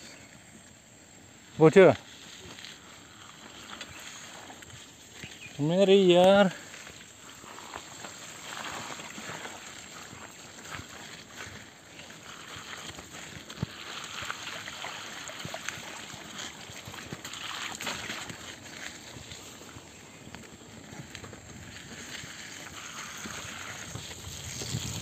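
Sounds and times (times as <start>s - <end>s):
bike tyres splashing through mud: 2.1s - 25.0s.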